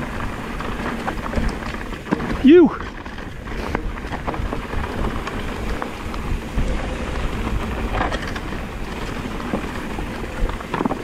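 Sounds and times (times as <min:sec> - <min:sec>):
bike rattling: 0:00.0 - 0:11.0
bike tyres crunching over rock: 0:00.0 - 0:11.0
wind rumbling on microphone: 0:00.0 - 0:11.0.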